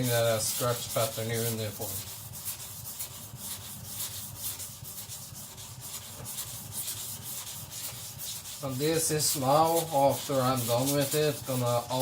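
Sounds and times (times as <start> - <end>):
blade grinding on whetstone: 0.0 - 12.0.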